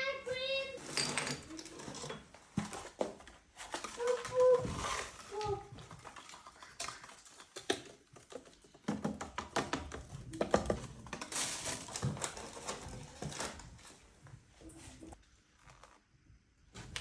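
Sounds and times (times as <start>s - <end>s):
household objects clicking and knocking: 0.7s - 15.2s.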